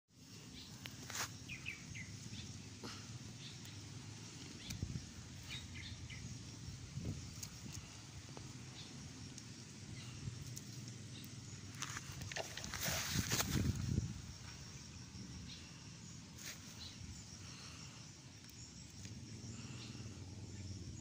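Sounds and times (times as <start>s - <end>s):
small birds chirping: 0.1s - 21.0s
leaves rustling: 0.2s - 14.8s, 15.6s - 19.7s.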